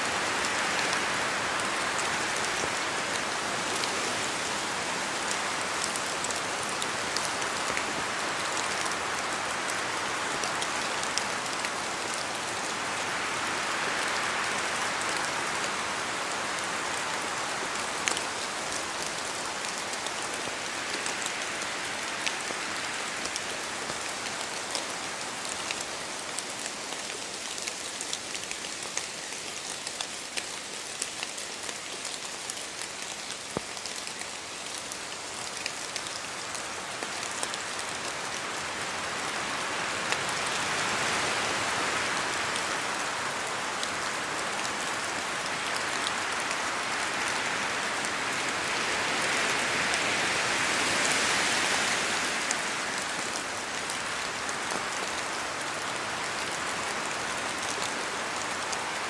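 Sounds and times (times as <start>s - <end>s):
steady rain in forest: 0.0s - 59.0s.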